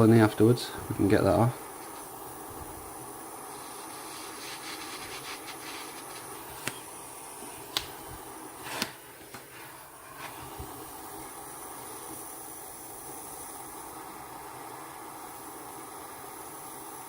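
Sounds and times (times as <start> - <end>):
blow torch hissing: 0.0 - 17.0.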